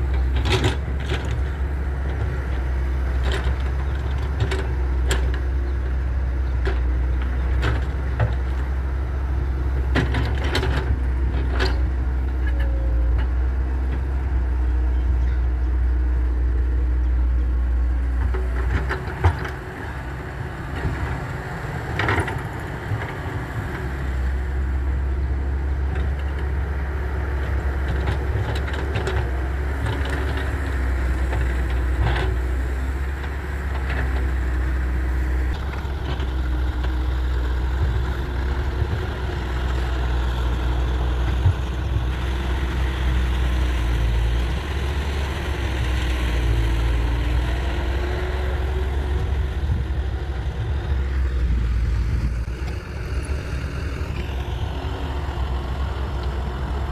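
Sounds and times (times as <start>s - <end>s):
excavator diesel engine running: 0.0s - 56.9s
tractor engine pulling: 0.0s - 56.9s.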